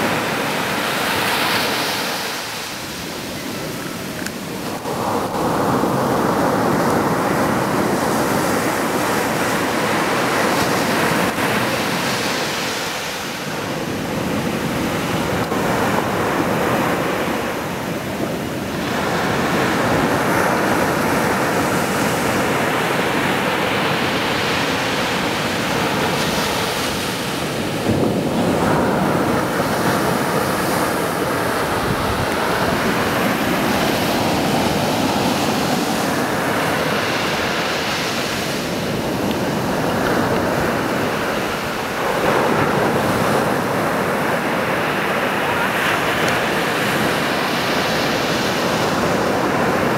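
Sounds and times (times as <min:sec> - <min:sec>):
surf breaking on a beach: 0:00.0 - 0:49.9.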